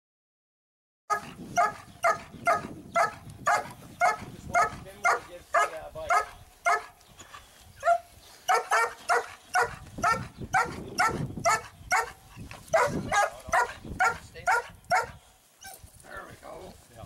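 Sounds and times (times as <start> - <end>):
puppy barking: 1.1 - 7.0, 7.8 - 15.8.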